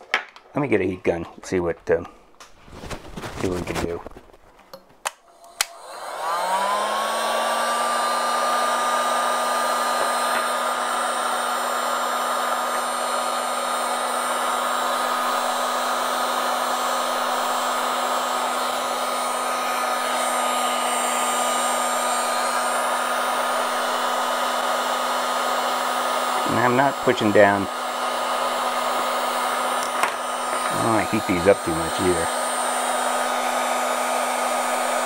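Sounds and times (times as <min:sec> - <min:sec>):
heat gun fan whine: 0:03.4 - 0:35.0.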